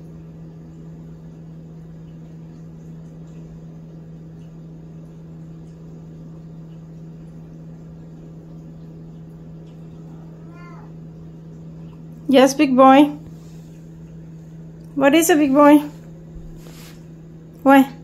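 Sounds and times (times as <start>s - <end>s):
low droning appliance hum: 0.0s - 18.0s.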